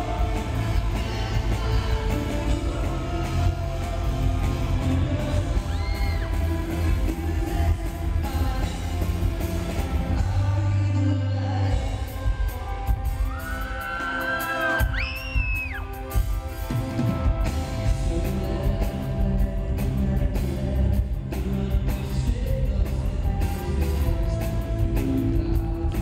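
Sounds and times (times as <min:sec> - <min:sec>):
male lead vocal: 0:00.0 - 0:15.0, 0:17.6 - 0:26.0
live rock band playing: 0:00.0 - 0:26.0.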